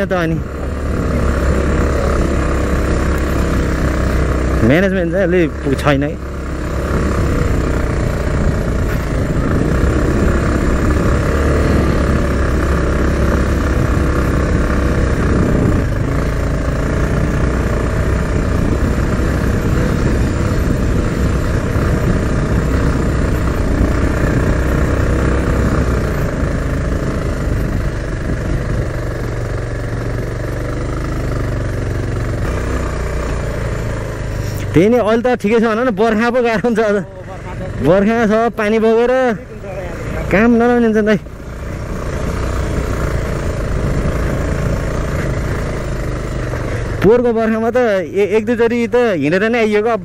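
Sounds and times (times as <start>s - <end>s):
motorcycle engine at low speed: 0.0s - 50.0s.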